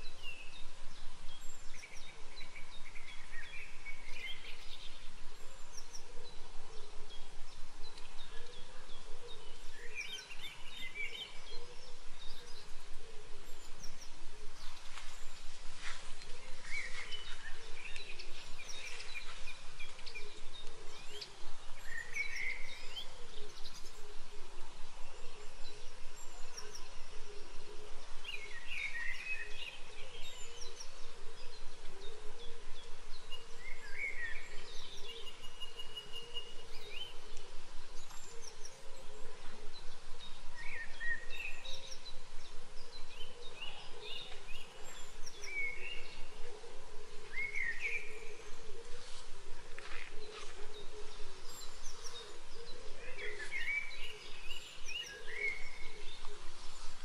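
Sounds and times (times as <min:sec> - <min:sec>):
background bird calls: 0:00.0 - 0:57.0
birds singing: 0:00.0 - 0:57.0.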